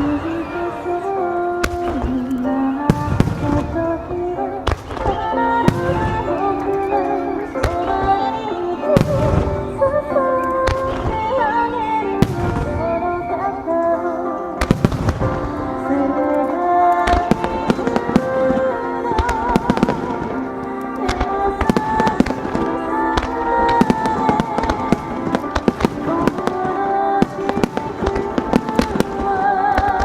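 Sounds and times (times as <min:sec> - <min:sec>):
fireworks bursting: 0:00.0 - 0:30.0
music with held melody notes: 0:00.0 - 0:30.0.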